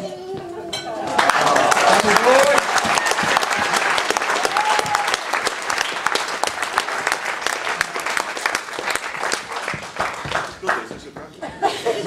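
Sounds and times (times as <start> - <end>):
crowd applauding: 1.0 - 11.4.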